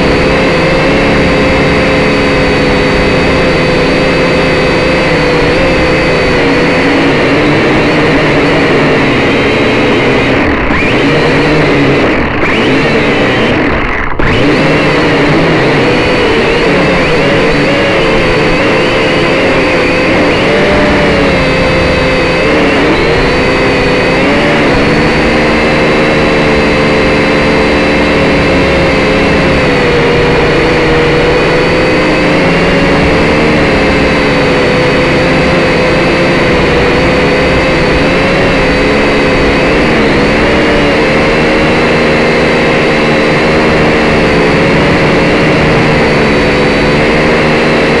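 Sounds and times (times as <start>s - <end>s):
drone propellers whining: 0.0s - 48.0s.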